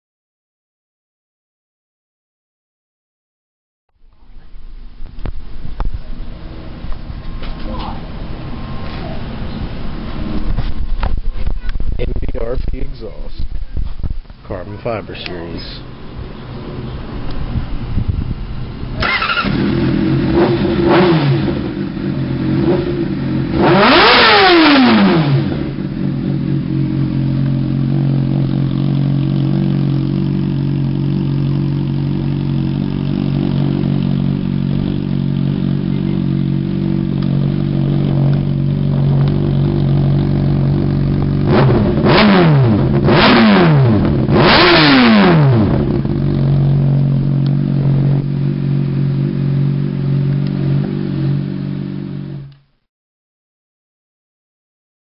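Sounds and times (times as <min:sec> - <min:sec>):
motorcycle engine idling and revving: 0:04.0 - 0:52.9.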